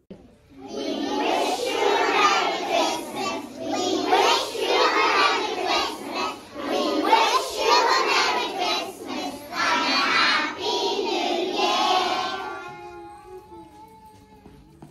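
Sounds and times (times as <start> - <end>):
children's voices in unison: 0.6 - 13.5.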